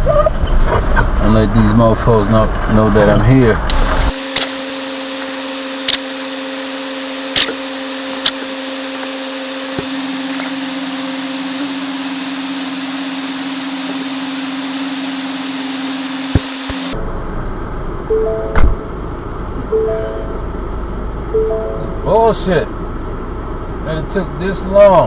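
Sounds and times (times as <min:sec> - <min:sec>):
steady machine hum: 0:03.6 - 0:25.0.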